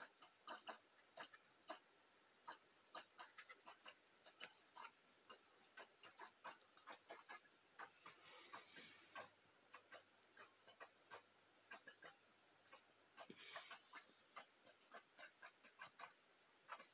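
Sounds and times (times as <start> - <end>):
faint clicking and ticking: 0.0 - 16.9.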